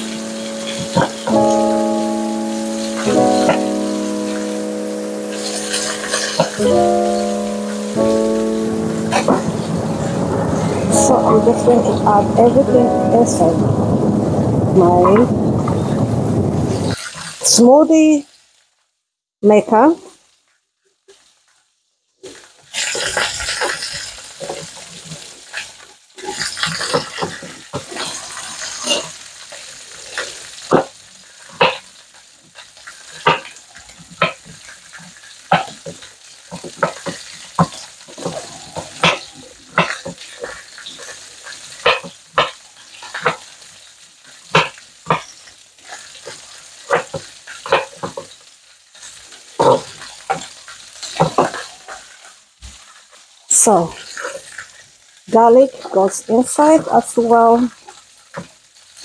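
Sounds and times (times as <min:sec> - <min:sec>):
meat sizzling: 0:00.0 - 0:18.7, 0:22.4 - 0:59.0.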